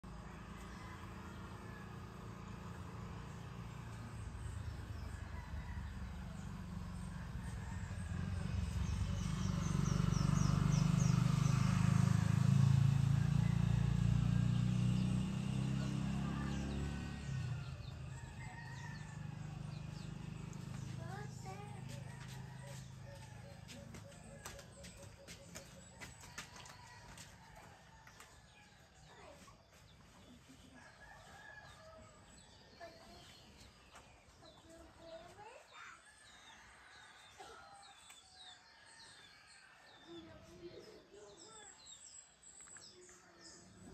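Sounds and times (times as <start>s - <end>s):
small birds chirping: 0.0s - 43.9s
faint rooster crowing: 0.1s - 10.5s, 11.4s - 14.4s, 15.4s - 41.9s.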